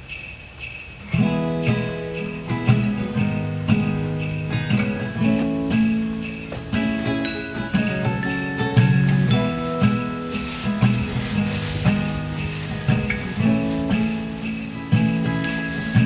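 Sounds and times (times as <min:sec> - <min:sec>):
festive pop tune with sleigh bells: 0:00.0 - 0:16.0.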